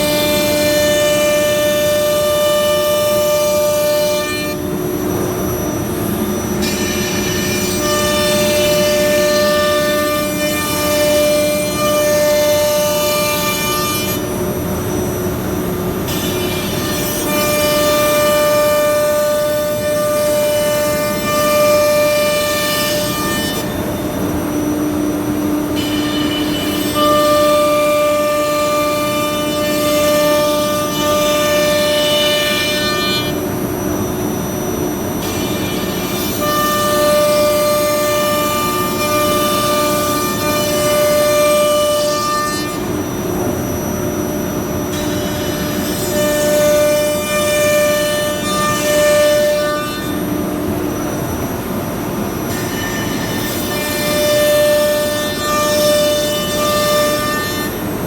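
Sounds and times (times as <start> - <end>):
cnc machine motors whining: 0.0 - 58.0.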